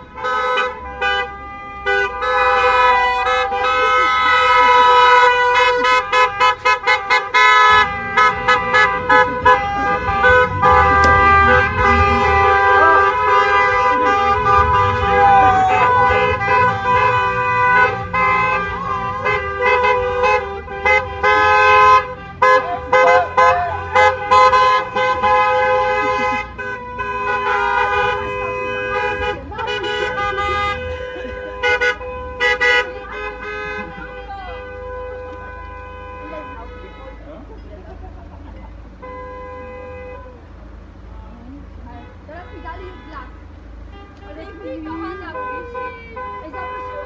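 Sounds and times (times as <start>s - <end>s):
car horns honking: 0.0s - 40.6s, 41.7s - 47.0s
rumble of passing cars: 0.0s - 47.0s.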